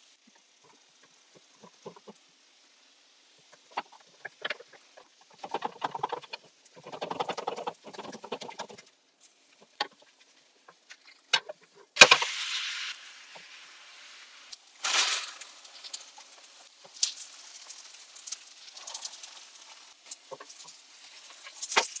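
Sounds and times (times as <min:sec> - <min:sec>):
pancake crackling as it fries: 0:00.0 - 0:22.0
sizzling: 0:00.0 - 0:22.0.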